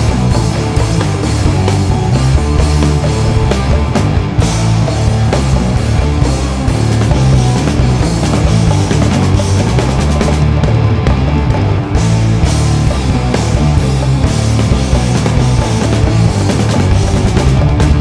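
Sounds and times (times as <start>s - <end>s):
bass: 0.0s - 18.0s
drum kit: 0.0s - 18.0s
electric guitar: 0.0s - 18.0s.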